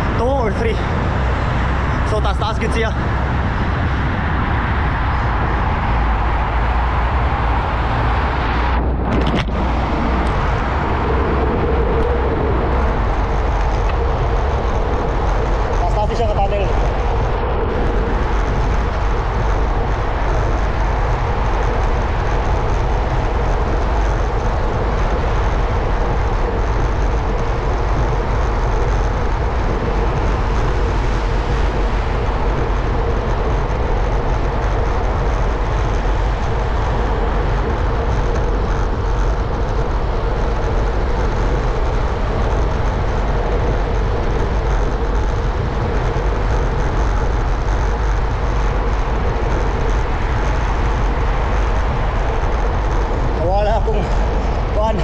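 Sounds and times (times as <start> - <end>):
faint steady hum: 0.0 - 55.0
low rumble: 0.0 - 55.0
road noise: 0.0 - 55.0
wind rush: 0.0 - 55.0.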